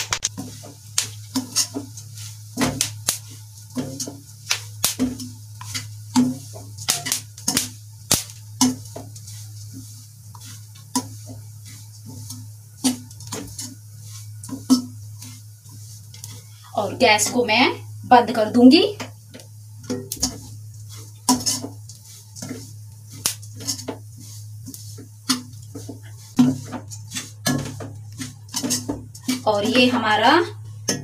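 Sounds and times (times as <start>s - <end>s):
metal skimmer scraping a pan: 0.2s - 17.6s, 18.6s - 31.0s.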